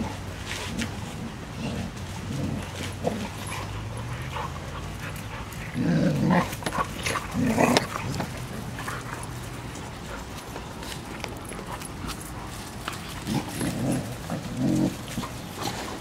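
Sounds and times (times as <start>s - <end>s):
dogs growling while playing: 0.0s - 16.0s.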